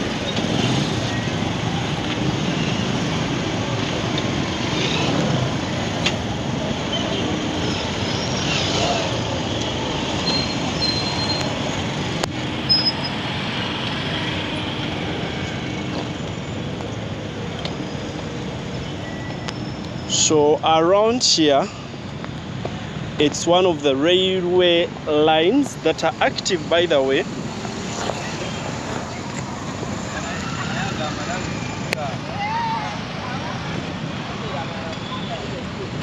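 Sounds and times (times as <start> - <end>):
city traffic: 0.0 - 36.0.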